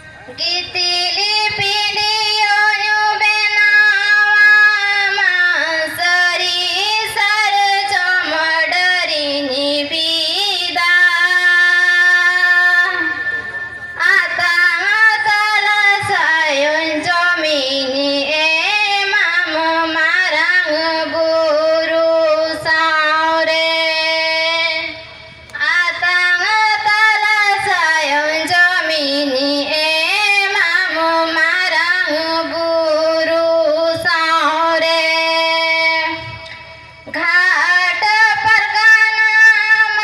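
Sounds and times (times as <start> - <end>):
woman singing into a microphone: 0.0 - 13.3, 14.0 - 40.0.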